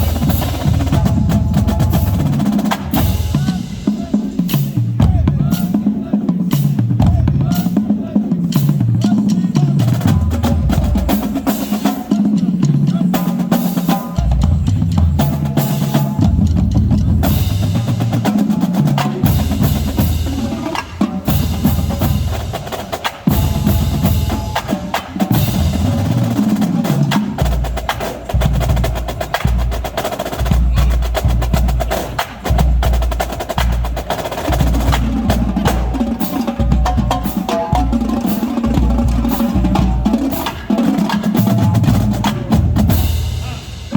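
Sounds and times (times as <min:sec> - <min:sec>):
pounding bass drums: 0:00.0 - 0:06.1, 0:14.2 - 0:43.9
snare drum strokes and rolls: 0:00.0 - 0:43.9.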